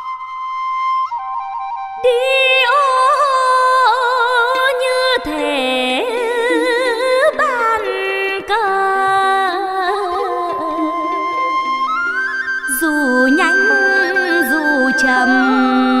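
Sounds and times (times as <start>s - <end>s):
flute melody with vibrato: 0.0s - 4.6s, 6.4s - 16.0s.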